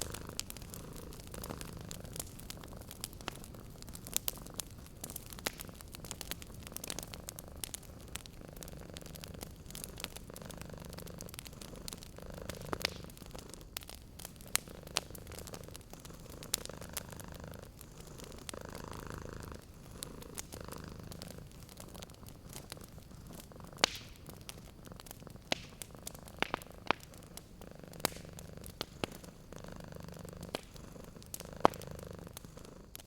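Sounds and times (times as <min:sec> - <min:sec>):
cat purring: 0:00.0 - 0:33.0
wood fire crackling and popping: 0:00.0 - 0:33.0.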